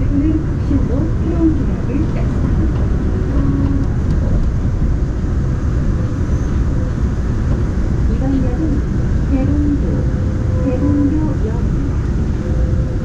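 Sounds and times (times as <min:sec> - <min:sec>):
monorail train rumbling: 0:00.0 - 0:13.0.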